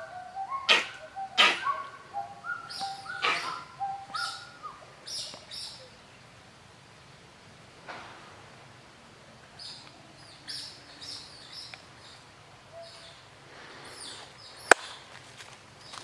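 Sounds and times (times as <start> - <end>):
small birds chirping: 0.0 - 6.5, 9.5 - 16.0
faint outdoor background noise: 0.0 - 16.0.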